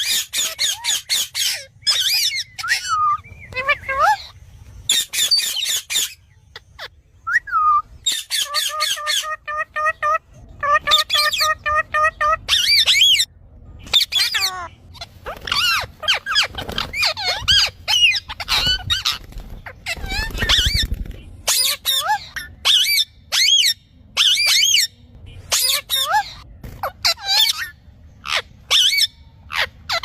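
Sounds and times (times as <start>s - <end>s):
parrot squawks: 0.0s - 6.9s, 7.6s - 13.3s, 13.9s - 20.9s, 21.5s - 24.9s, 25.5s - 30.0s
parrot calling: 0.0s - 13.3s, 13.9s - 24.9s, 25.5s - 30.0s.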